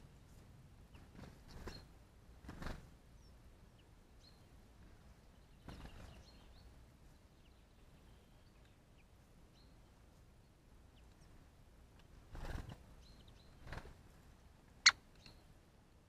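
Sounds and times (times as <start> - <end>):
songbirds calling: 0.0 - 2.0, 3.1 - 11.6, 12.3 - 14.0, 14.8 - 15.6.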